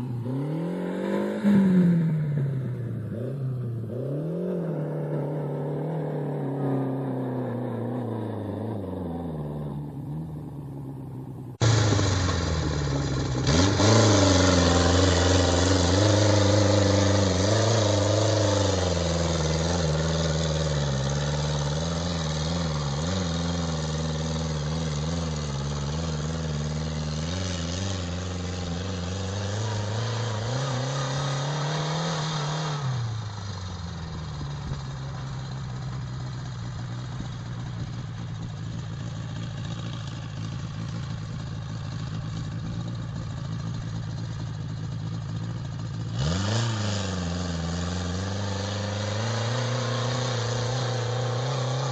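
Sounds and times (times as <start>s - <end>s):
turbocharged engine revving: 0.0s - 51.9s.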